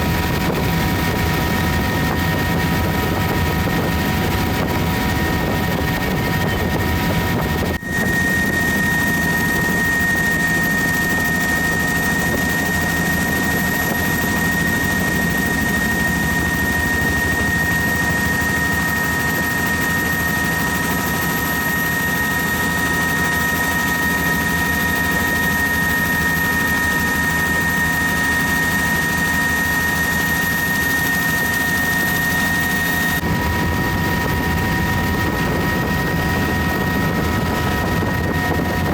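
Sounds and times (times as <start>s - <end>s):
helicopter rotor and engine rush: 0.0s - 38.9s
high-pitched whine: 0.0s - 38.9s.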